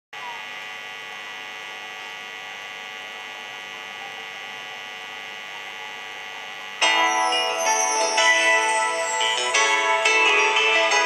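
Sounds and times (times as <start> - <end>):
electrical hum and buzz: 0.2 - 11.0.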